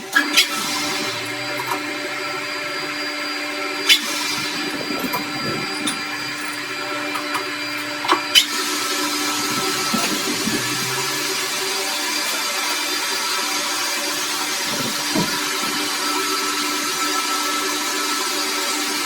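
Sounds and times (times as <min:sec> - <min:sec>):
workshop machine humming: 0:00.0 - 0:19.0.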